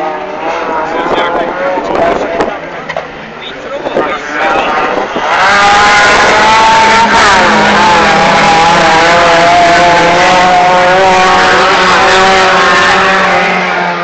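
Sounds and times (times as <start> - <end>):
racing engine revving: 0.0 - 14.0.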